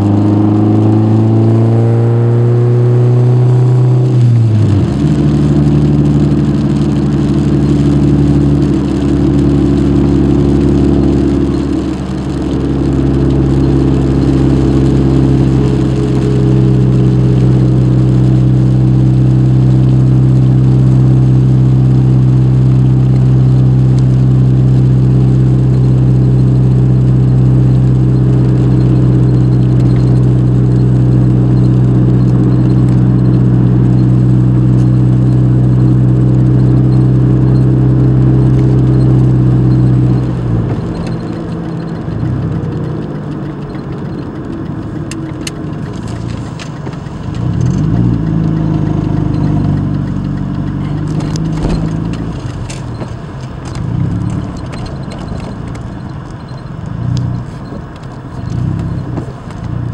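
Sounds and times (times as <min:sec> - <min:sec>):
car engine while driving: 0:00.0 - 0:59.9.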